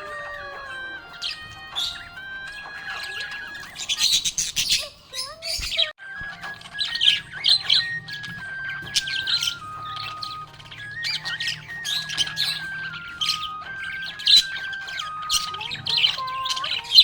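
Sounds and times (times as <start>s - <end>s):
slow background music: 0.0s - 4.6s, 6.0s - 17.0s
budgerigars chattering: 0.1s - 17.0s.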